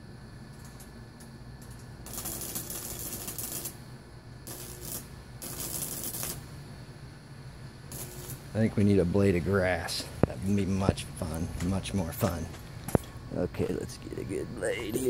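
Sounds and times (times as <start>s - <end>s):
steady low hum: 0.0s - 15.0s
crackling electric sparks: 0.5s - 6.7s, 7.8s - 15.0s.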